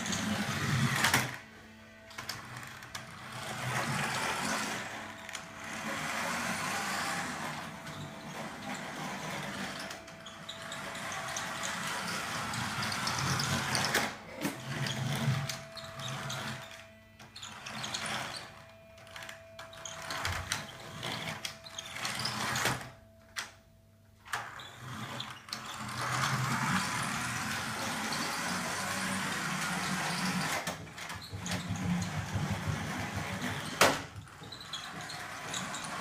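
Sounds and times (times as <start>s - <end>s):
mechanism whirring and clattering: 0.0s - 23.5s, 24.3s - 36.0s.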